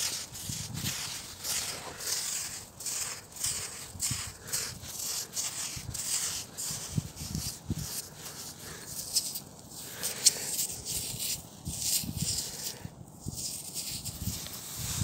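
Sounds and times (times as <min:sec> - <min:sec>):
fingers digging in wet sand: 0:00.0 - 0:15.0.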